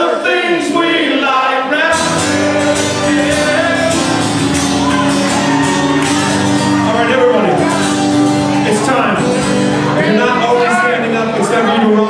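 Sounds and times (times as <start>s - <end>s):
acoustic guitar strumming: 1.9s - 12.0s.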